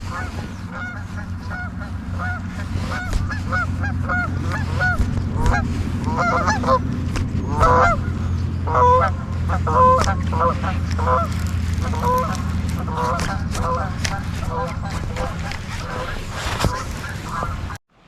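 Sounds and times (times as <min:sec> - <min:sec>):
geese honking: 0:00.0 - 0:17.8
steady low hum: 0:00.0 - 0:17.8.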